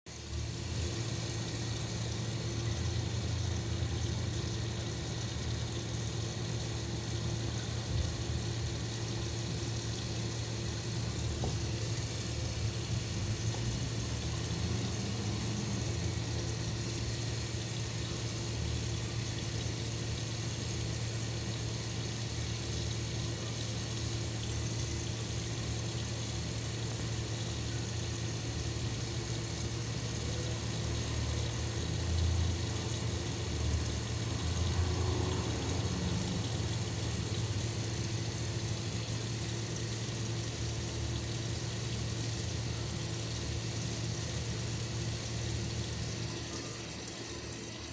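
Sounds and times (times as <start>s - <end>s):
water running: 0.1s - 47.9s.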